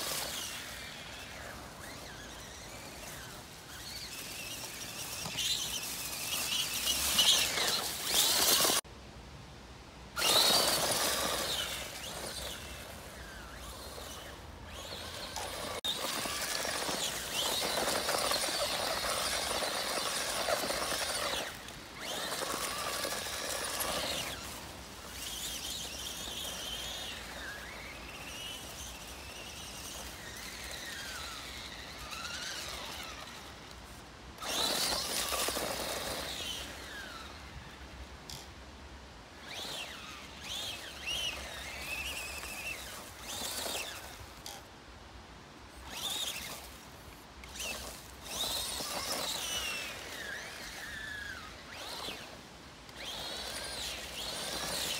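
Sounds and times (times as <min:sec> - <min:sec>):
toy truck electric motor whining: 0:00.0 - 0:08.8, 0:10.2 - 0:38.5, 0:39.4 - 0:44.7, 0:45.7 - 0:54.9.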